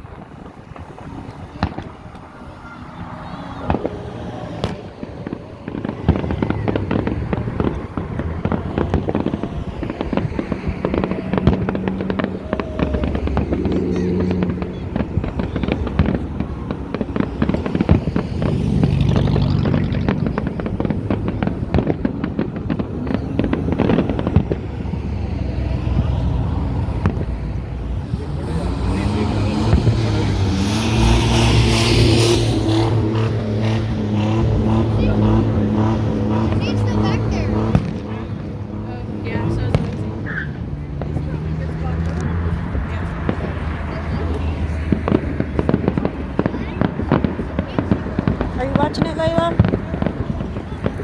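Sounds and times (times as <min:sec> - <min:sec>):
fireworks crackling and banging: 0:00.0 - 0:51.0.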